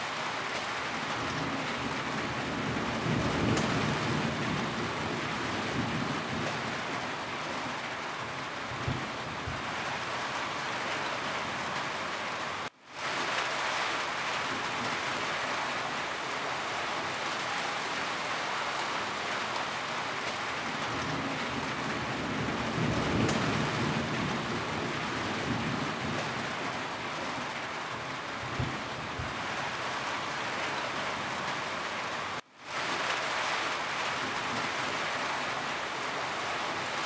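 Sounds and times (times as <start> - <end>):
rain falling on a roof: 0.0 - 37.0.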